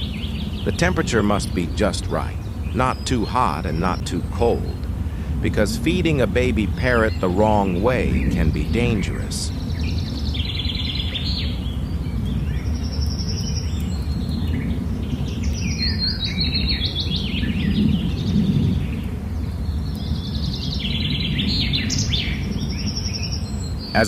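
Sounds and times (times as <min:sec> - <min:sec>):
birds chirping: 0:00.0 - 0:24.0
low background rumble: 0:00.0 - 0:24.0.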